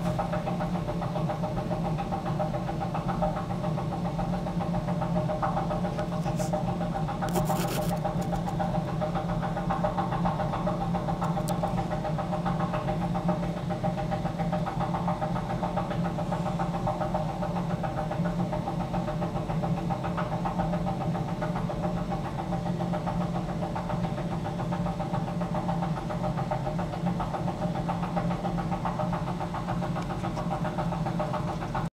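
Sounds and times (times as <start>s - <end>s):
vacuum pump humming: 0.0s - 31.9s.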